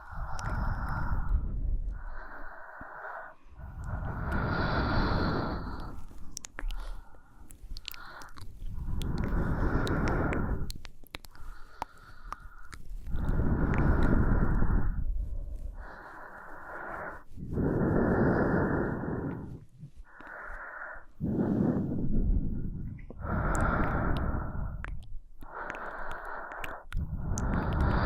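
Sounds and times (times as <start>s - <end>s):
woman breathing slowly: 0.0s - 28.0s.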